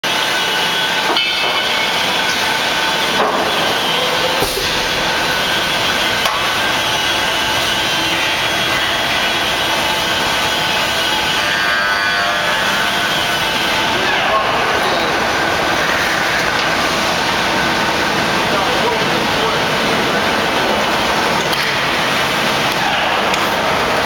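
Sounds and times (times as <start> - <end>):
levelling machine running: 0.0 - 24.0.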